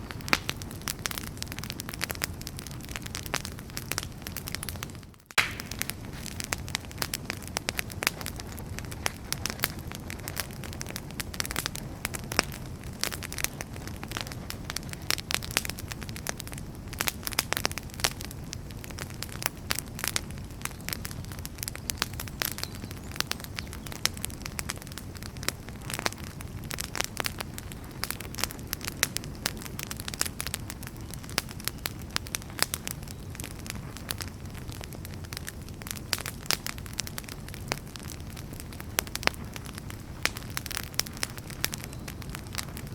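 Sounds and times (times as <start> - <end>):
fire rumbling in fireplace: 0.0 - 42.9
firewood crackling and popping: 0.0 - 42.9.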